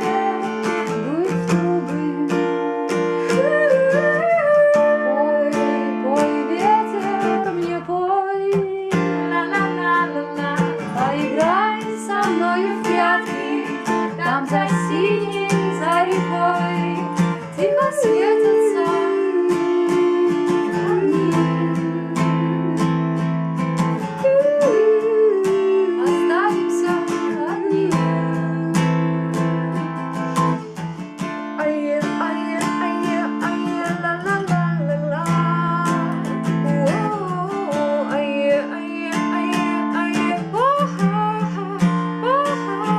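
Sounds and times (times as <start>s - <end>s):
acoustic guitar strumming: 0.0s - 42.9s
person singing: 0.0s - 42.9s.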